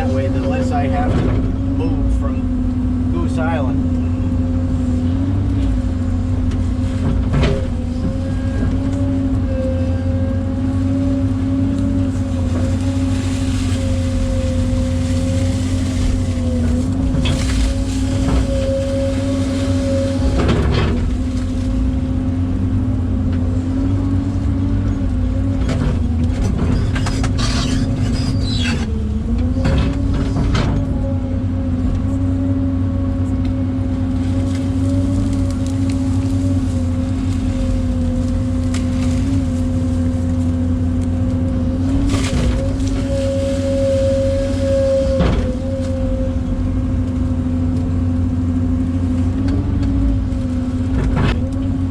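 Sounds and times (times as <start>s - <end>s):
excavator engine droning: 0.0s - 51.9s.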